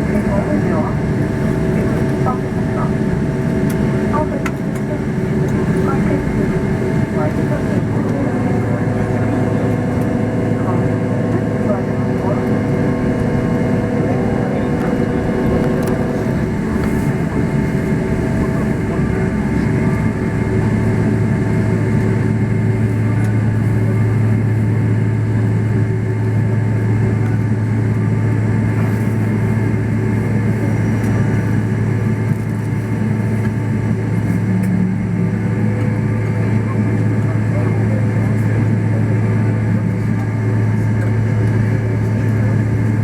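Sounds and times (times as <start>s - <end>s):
airliner cabin engine rumble: 0.0s - 43.0s
low hum: 0.0s - 43.0s.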